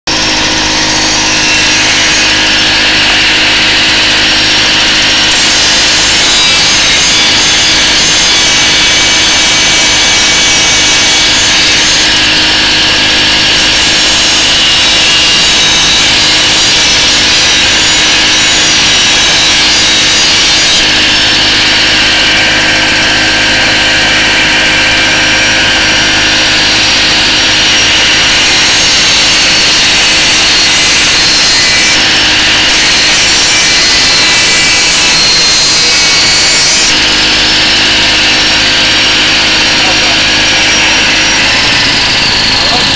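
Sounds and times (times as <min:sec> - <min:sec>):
angle grinder grinding steel: 0:00.0 - 0:42.9
generator humming: 0:00.0 - 0:42.9.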